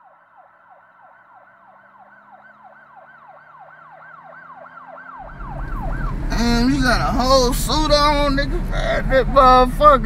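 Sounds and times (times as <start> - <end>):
siren yelping: 0.0 - 9.6.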